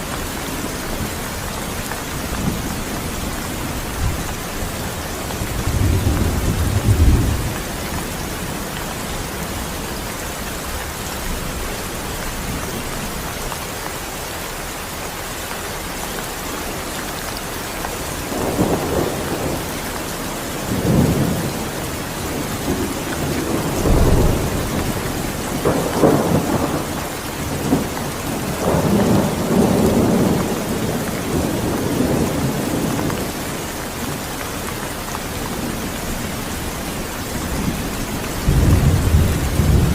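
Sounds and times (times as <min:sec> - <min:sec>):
thunder rumbling: 0:00.0 - 0:13.6, 0:17.8 - 0:33.4, 0:35.2 - 0:39.9
rain falling: 0:00.0 - 0:39.9.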